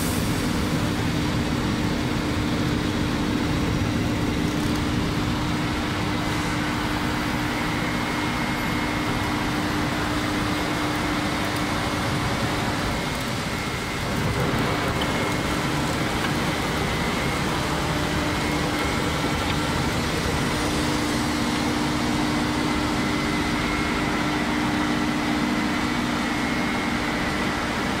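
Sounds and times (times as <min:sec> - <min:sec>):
machine drone: 0:00.0 - 0:28.0.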